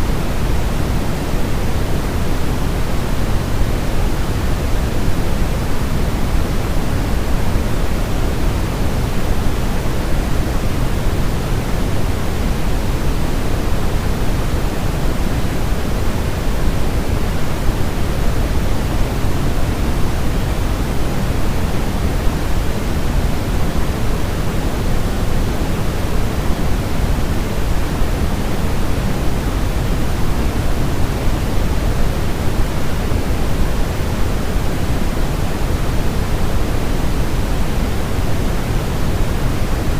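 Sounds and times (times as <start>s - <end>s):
deep white noise hiss: 0.0s - 39.9s.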